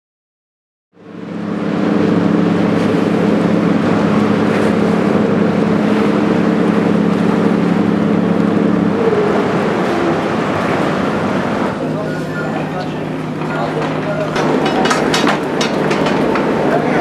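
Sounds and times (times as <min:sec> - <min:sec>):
ferry engines droning: 0:01.0 - 0:17.0
wind and water rushing: 0:01.0 - 0:17.0.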